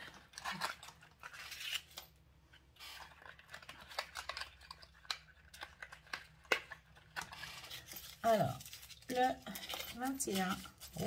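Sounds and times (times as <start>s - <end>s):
paper and plastic rustling: 0.0s - 2.2s, 2.8s - 11.0s.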